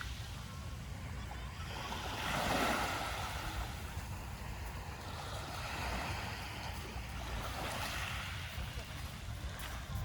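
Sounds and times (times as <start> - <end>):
waves washing onto sand: 0.0 - 10.0
wind rumble on microphone: 0.0 - 10.0.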